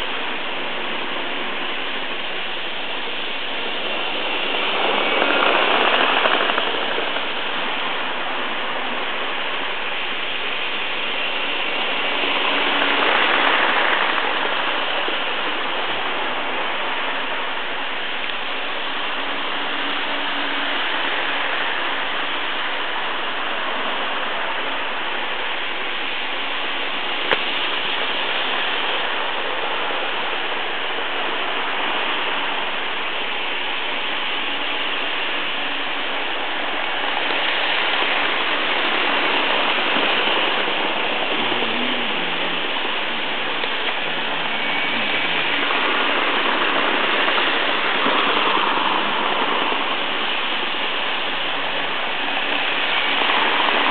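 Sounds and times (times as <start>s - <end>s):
model train wheels whirring: 0.0s - 53.9s.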